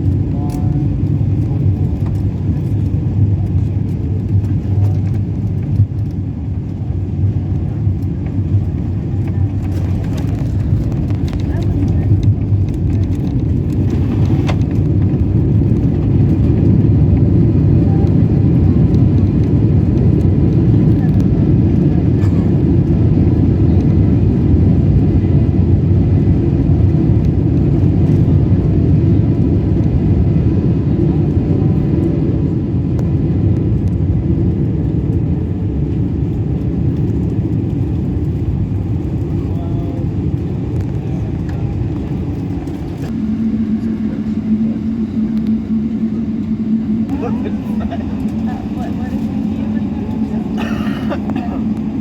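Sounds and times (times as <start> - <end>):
airplane cabin engine rumble: 0.0 - 52.0.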